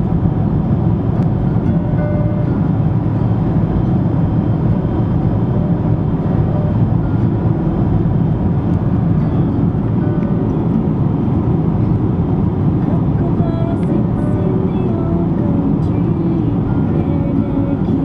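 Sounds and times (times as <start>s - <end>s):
car road noise rumble: 0.0s - 18.0s
wind noise: 0.0s - 18.0s.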